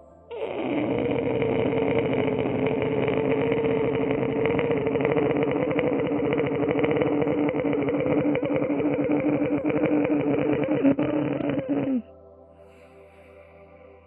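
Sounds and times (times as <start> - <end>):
rattly buzzing breath: 0.3 - 14.0.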